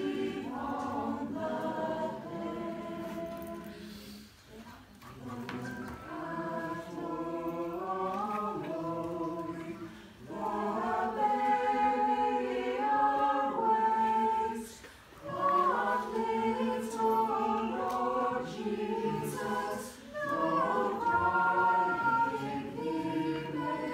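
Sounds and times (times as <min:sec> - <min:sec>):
choir singing a cappella: 0:00.0 - 0:04.3, 0:05.1 - 0:23.9.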